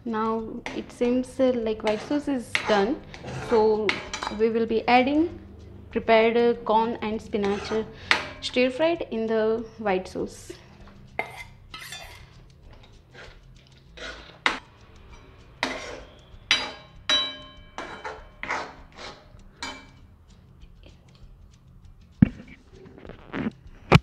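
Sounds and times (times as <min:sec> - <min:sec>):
metal spoon scraping metal pan: 0:00.1 - 0:21.3.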